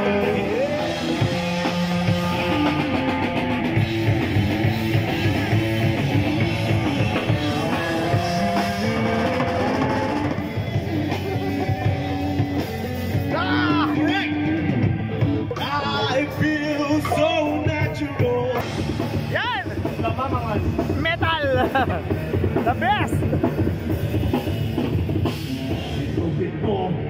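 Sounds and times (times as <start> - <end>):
bass guitar: 0.0 - 27.0
drum kit: 0.0 - 27.0
electric guitars: 0.0 - 27.0.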